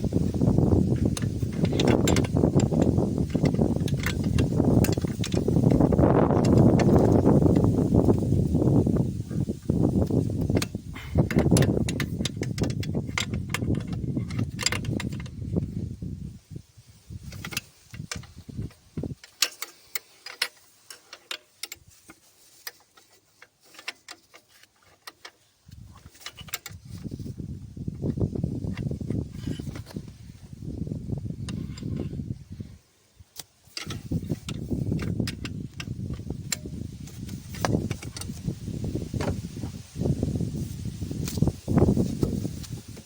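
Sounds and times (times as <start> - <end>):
sharp clicks and light rattles: 0.2 - 15.9, 17.2 - 32.6, 33.3 - 43.0.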